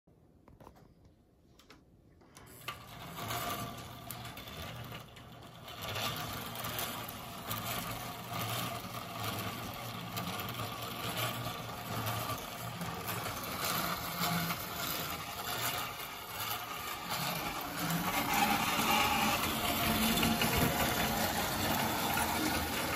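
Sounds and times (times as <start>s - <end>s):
toy electric train motor hum: 2.4s - 22.9s
wheels clattering on metal rails: 2.4s - 22.9s.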